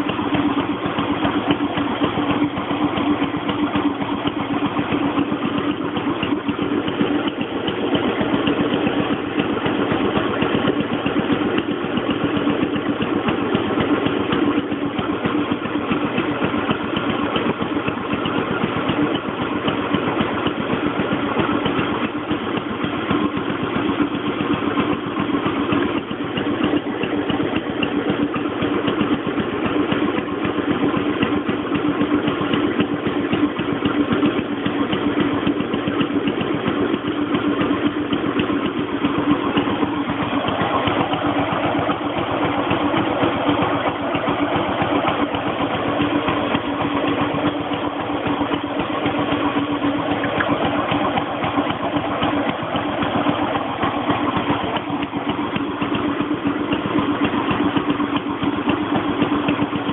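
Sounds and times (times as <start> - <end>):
stationary engine running steadily: 0.0 - 59.9.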